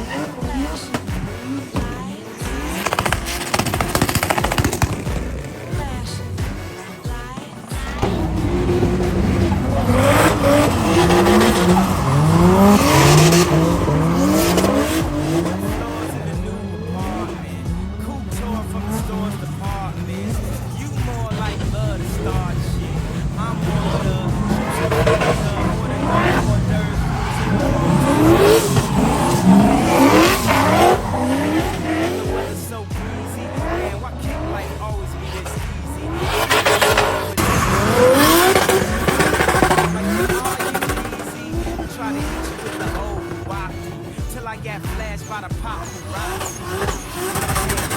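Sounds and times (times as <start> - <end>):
car engine revving hard: 0.0 - 47.9
tyres screeching on tarmac: 0.0 - 47.9.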